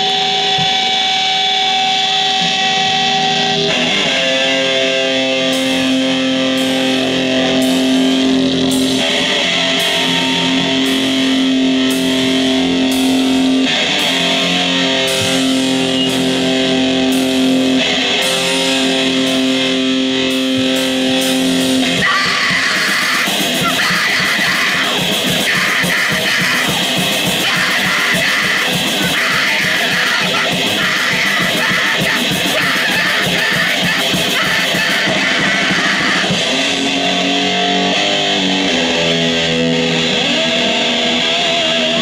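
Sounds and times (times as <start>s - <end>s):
distorted electric guitar chords: 0.0s - 42.0s
drums: 0.0s - 42.0s.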